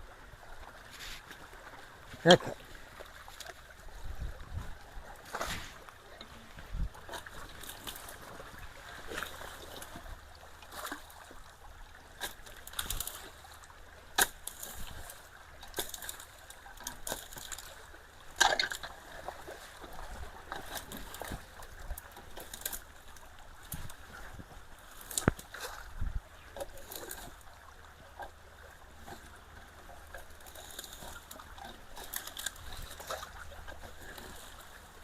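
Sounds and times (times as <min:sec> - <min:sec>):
creek water trickling: 0:00.0 - 0:35.0
water splashes: 0:00.0 - 0:35.0.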